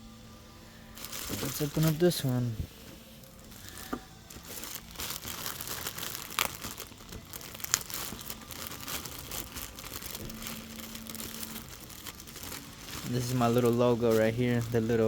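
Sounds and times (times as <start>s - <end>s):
packaging tearing: 1.0s - 2.4s, 3.2s - 15.0s
packaging crinkling and rustling: 1.0s - 15.0s.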